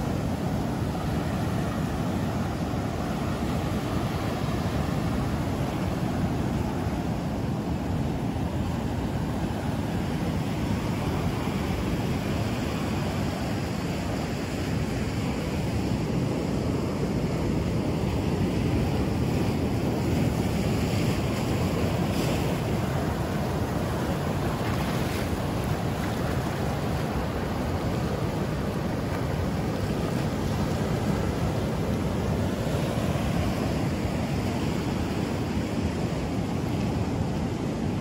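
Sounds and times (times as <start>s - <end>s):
ocean waves breaking on beach: 0.0s - 38.0s.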